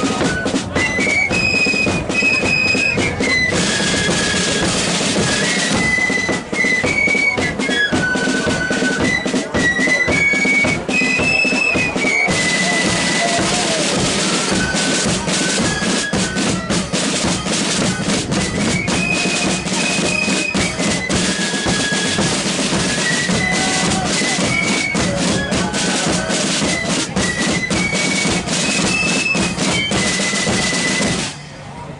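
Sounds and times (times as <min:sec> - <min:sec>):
side drum rolls: 0:00.0 - 0:31.4
flutes playing melody: 0:00.0 - 0:31.8.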